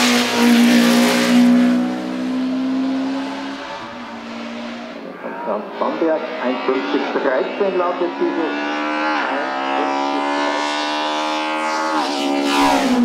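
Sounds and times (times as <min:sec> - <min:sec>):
race car engine revving high: 0:00.0 - 0:13.0.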